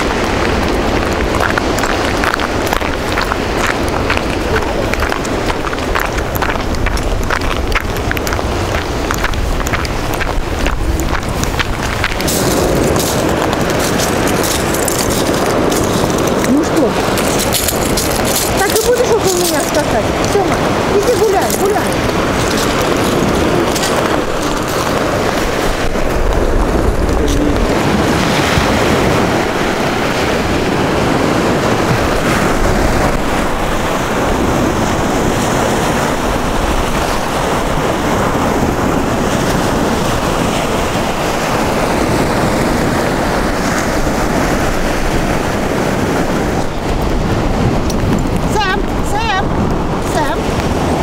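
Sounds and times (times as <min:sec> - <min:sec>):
sea waves breaking on beach: 0:00.0 - 0:51.0
wind buffeting microphone: 0:00.0 - 0:51.0.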